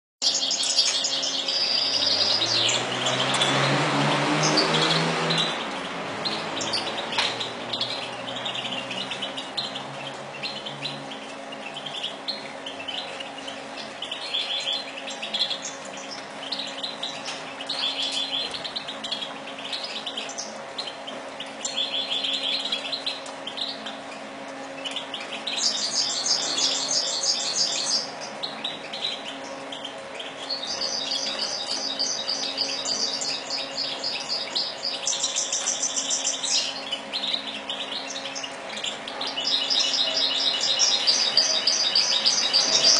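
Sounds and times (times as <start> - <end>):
goldfinch singing: 0.2 - 42.9
steady low hum: 0.3 - 42.9.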